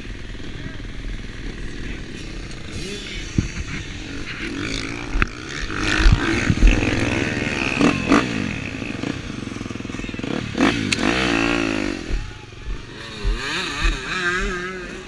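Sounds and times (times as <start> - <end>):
dirt bike engines running: 0.0 - 15.0.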